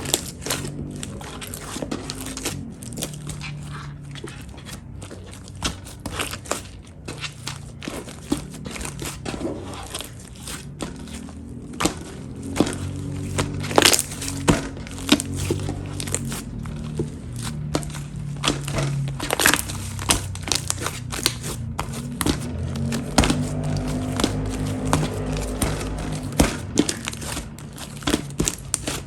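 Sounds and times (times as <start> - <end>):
slime squished by hand: 0.0 - 29.0.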